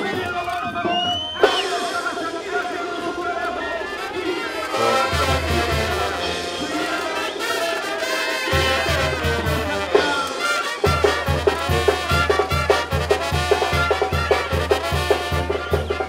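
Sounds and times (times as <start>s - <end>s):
brass band music: 0.0s - 16.0s.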